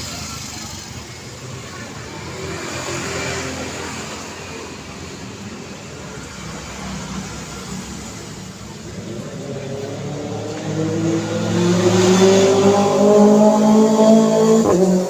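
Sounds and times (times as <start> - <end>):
loud vehicle passing: 0.0 - 15.0
road traffic noise: 0.0 - 15.0.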